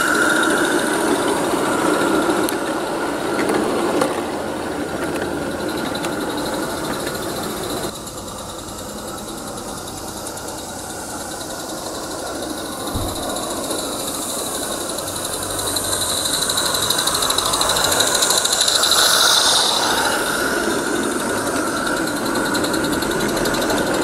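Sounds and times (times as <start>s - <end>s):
small steam locomotive exhaust beat: 0.0s - 24.0s.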